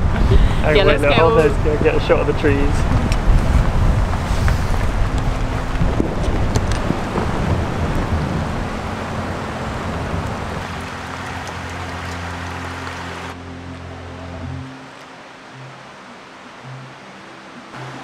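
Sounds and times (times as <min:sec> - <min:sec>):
low rumble: 0:00.0 - 0:14.8
steady rain: 0:00.0 - 0:18.0.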